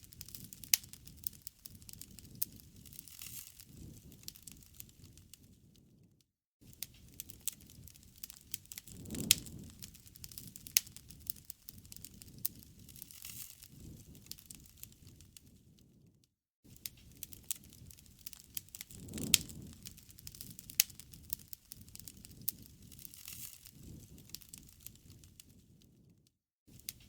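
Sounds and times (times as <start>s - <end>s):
campfire crackling and popping: 0.0s - 6.0s, 6.7s - 16.0s, 16.7s - 27.0s.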